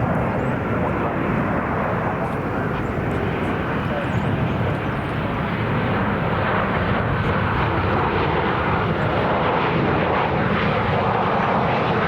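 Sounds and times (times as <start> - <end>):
jet airliner engines: 0.0 - 12.0.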